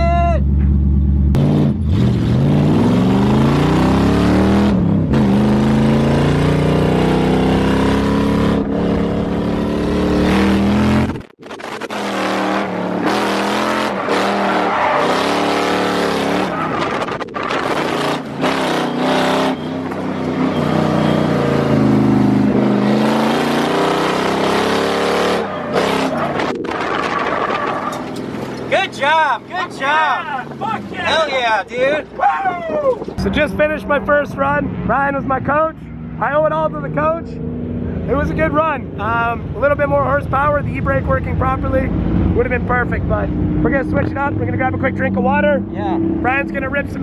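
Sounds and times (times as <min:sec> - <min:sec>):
car engine revving: 0:00.5 - 0:31.6, 0:33.2 - 0:47.0.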